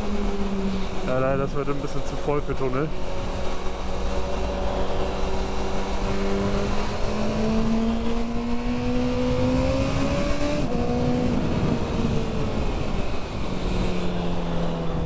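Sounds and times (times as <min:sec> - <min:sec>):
riding wind rush: 0:00.0 - 0:15.0.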